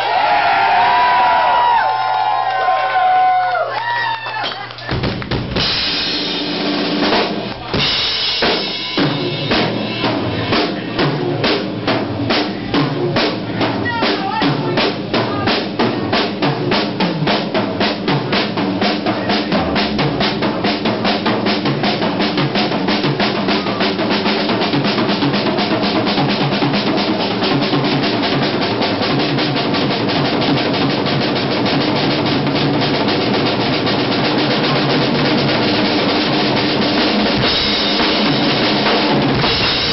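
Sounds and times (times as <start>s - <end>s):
drum kit roll: 0.0s - 39.9s.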